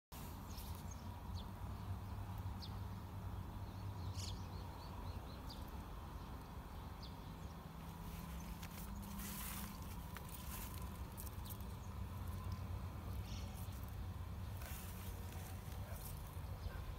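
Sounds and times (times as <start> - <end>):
small birds chirping: 0.2 - 16.9.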